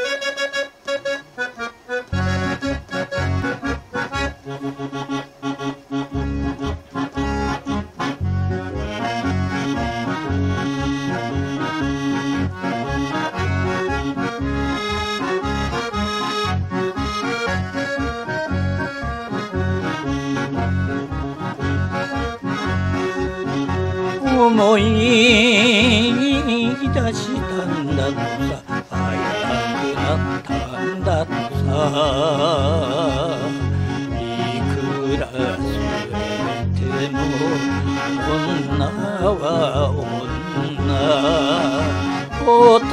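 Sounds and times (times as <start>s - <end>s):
piano accordion playing: 0.0s - 42.9s.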